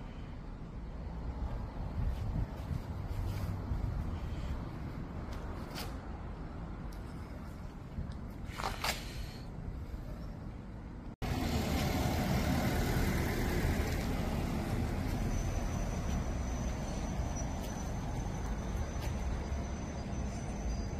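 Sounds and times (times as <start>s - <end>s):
road traffic rumble: 0.0s - 20.9s.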